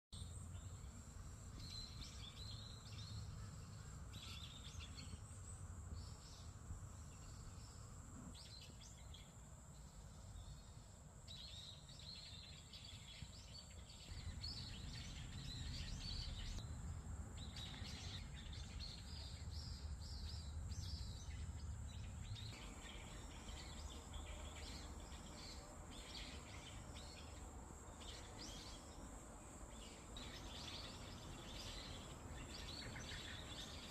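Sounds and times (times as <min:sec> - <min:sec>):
small birds chirping: 0:00.1 - 0:33.9
faint high-pitched whine: 0:00.2 - 0:33.9.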